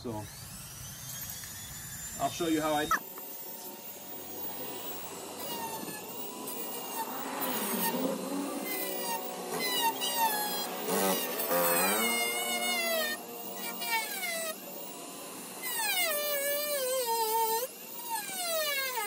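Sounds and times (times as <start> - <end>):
rotary tool cutting plastic: 0.0 - 19.0.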